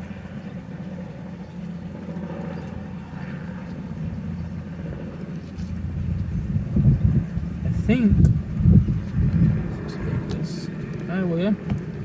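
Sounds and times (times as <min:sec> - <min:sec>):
low mechanical hum and rumble: 0:00.0 - 0:12.0.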